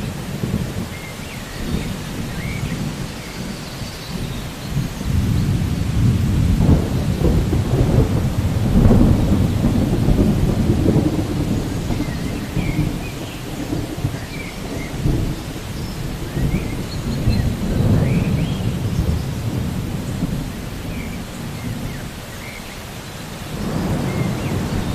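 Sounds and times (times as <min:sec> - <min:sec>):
rolling thunder: 0:00.0 - 0:22.3, 0:23.3 - 0:24.9
steady rain: 0:00.0 - 0:24.9.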